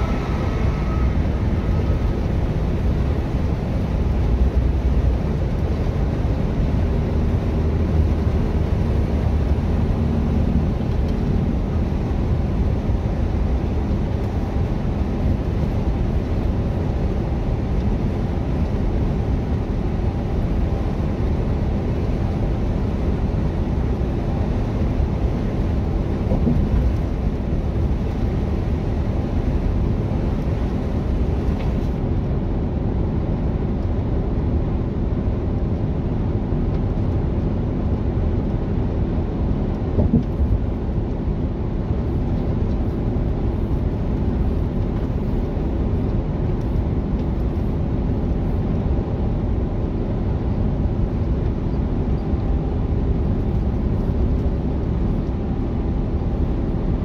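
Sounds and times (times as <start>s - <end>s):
truck engine and tyre drone: 0.0s - 57.0s.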